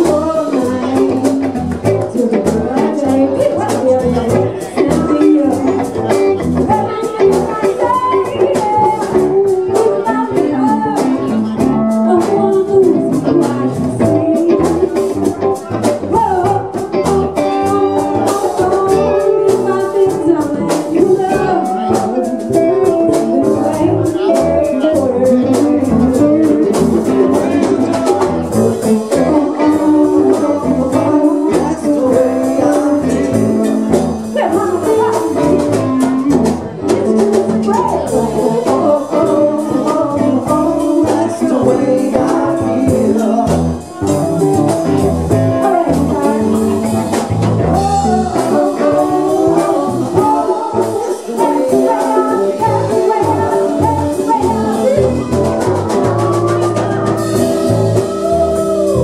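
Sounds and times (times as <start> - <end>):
drum kit: 0.0 - 59.0
guitar: 0.0 - 59.0
hand drum: 0.0 - 59.0
person singing: 0.0 - 59.0.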